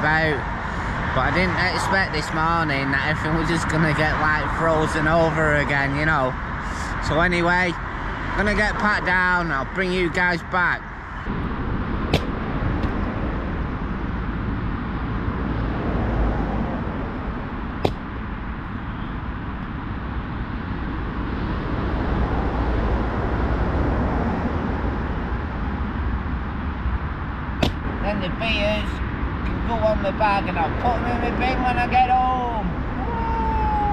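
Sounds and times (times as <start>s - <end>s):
road traffic rushing: 0.0s - 33.9s.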